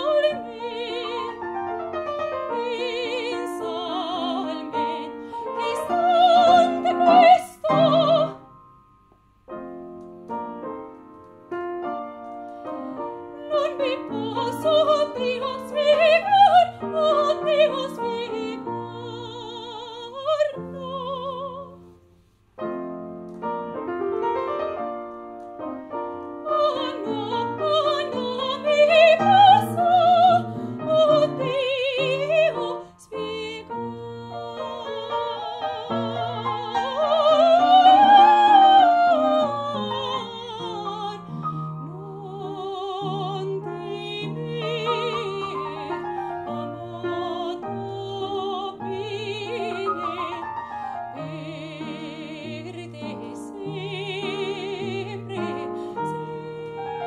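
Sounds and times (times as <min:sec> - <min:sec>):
woman singing opera: 0:00.0 - 0:08.5, 0:12.6 - 0:21.8, 0:26.1 - 0:57.0
upright piano: 0:00.0 - 0:57.0.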